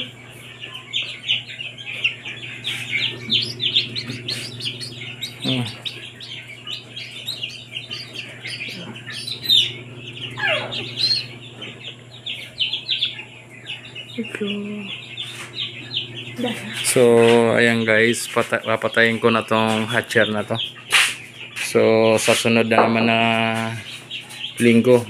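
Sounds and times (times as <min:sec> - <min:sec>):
chicks peeping: 0:00.0 - 0:25.0
hatcher low hum: 0:00.0 - 0:25.0.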